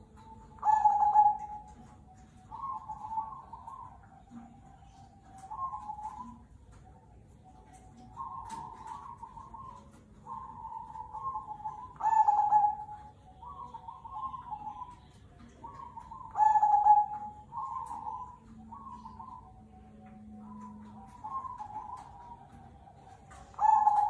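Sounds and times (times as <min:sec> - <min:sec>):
dove cooing: 0:00.0 - 0:24.0.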